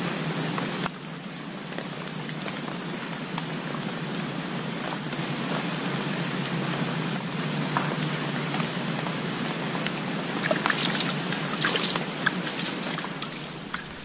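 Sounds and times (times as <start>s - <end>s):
rain hissing in forest: 0.0s - 14.0s.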